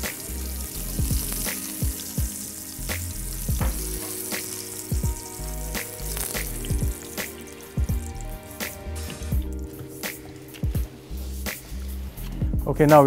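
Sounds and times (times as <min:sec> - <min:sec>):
fish sizzling in a grill pan: 0:00.0 - 0:12.4.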